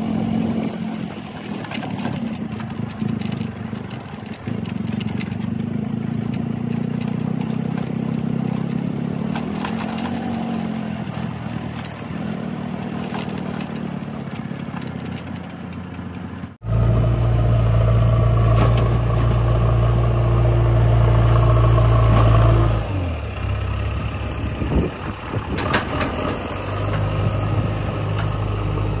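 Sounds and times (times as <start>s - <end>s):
diesel engine working under load: 0.0s - 29.0s
loader bucket pushing earth: 0.0s - 29.0s.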